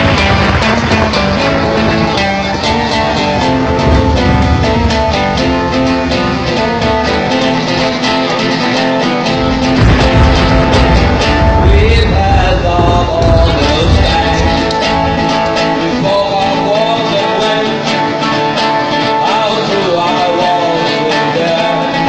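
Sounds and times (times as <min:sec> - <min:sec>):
acoustic guitar picked and strummed: 0:00.0 - 0:22.0.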